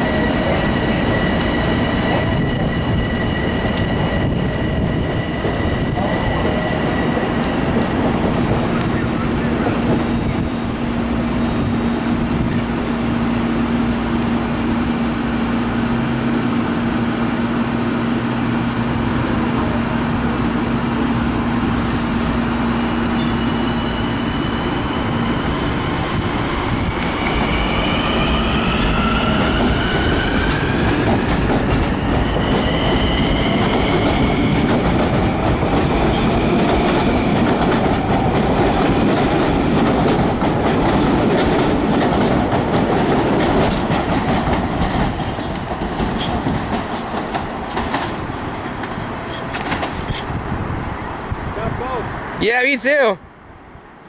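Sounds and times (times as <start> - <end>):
train cars rumbling and clattering: 0.0 - 52.4.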